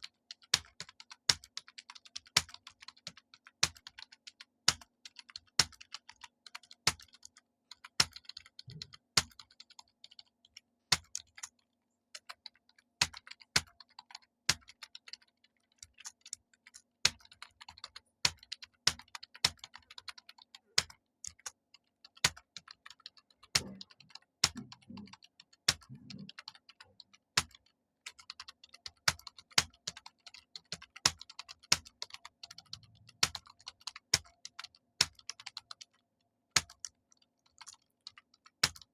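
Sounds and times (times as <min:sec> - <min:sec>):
typing on computer keyboard: 0:00.0 - 0:38.9.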